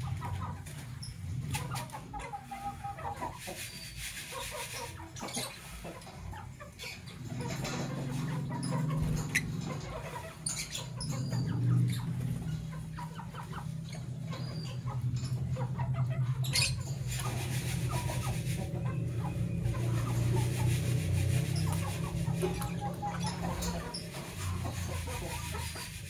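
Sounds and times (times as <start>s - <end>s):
faint bird chatter: 0.0s - 26.0s.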